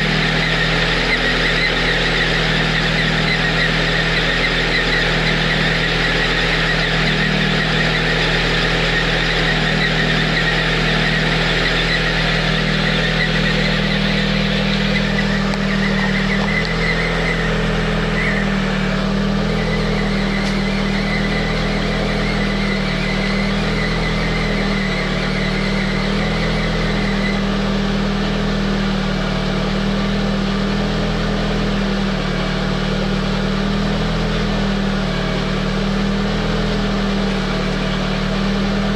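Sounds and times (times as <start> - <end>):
car engine idling: 0.0 - 38.9
high engine whistle: 0.0 - 38.9.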